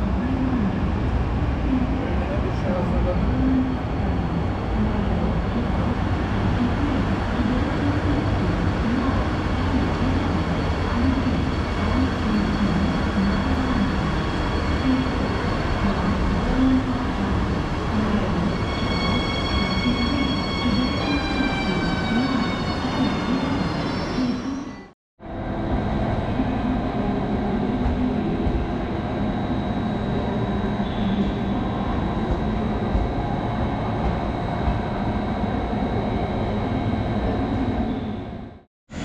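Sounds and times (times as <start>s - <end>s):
high multi-tone whine: 0.0s - 39.0s
train rumbling on rails: 0.0s - 39.0s.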